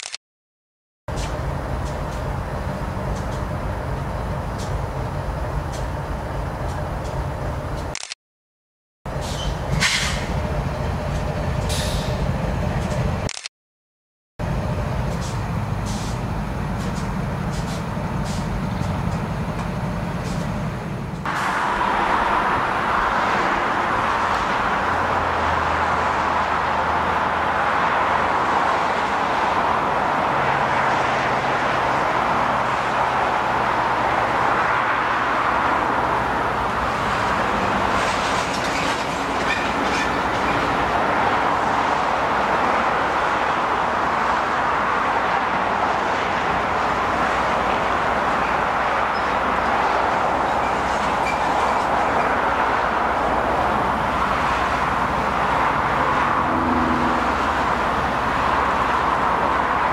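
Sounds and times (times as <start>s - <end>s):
steel wheels rolling on rail: 1.1s - 7.9s, 9.1s - 13.3s, 14.4s - 59.9s.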